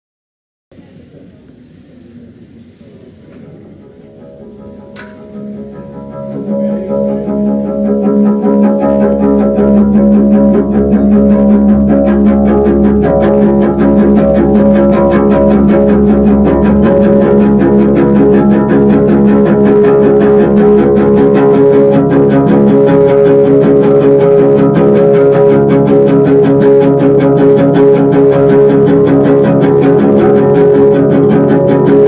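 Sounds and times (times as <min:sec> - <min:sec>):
bowed double bass: 0:03.4 - 0:32.0.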